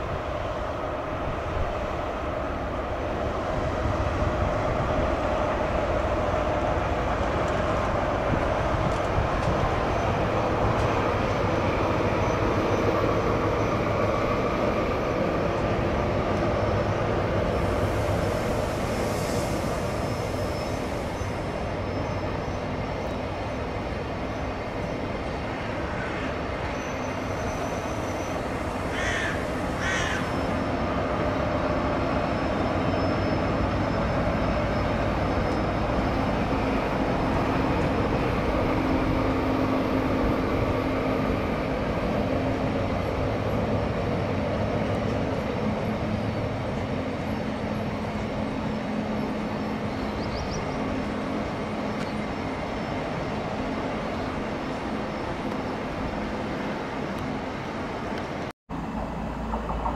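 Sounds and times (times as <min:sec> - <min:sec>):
distant train rumbling: 0:00.0 - 0:59.9.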